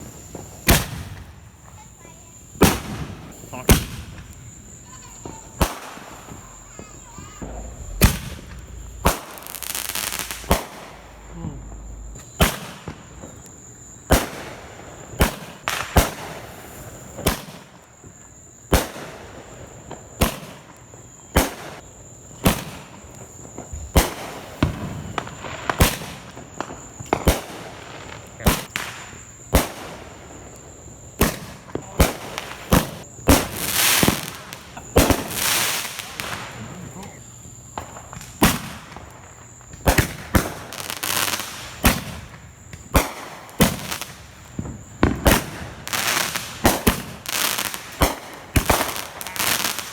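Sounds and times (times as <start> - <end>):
fireworks bangs: 0.0 - 17.7, 22.4 - 49.9
fireworks hissing crackle: 0.0 - 49.9.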